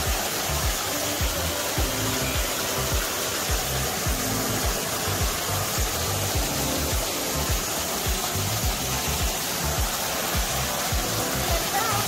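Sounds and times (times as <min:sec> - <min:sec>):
music with deep beat: 0:00.0 - 0:12.0
waterfall rushing: 0:00.0 - 0:12.0.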